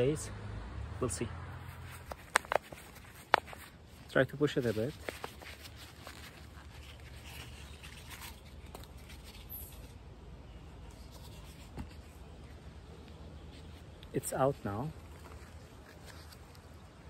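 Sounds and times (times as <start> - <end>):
plastic pot scraping and rustling: 1.6 - 10.0, 10.9 - 12.7, 13.4 - 16.8.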